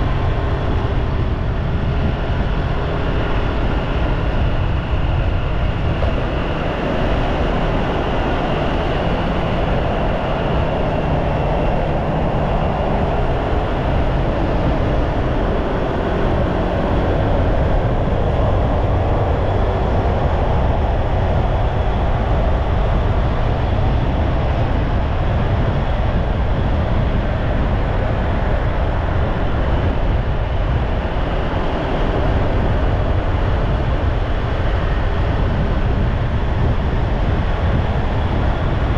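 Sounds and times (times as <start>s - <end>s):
vehicle engine and tyre noise: 0.0s - 38.9s.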